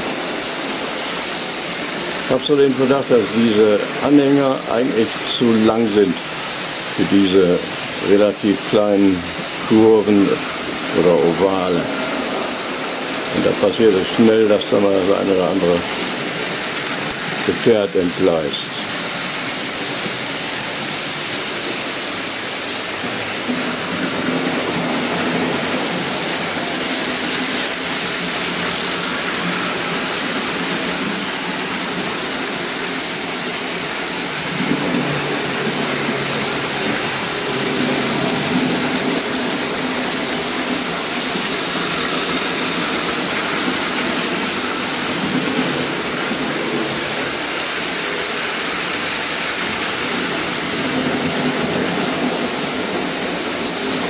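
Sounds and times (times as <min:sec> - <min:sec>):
model trains whirring on track: 0:00.0 - 0:54.0.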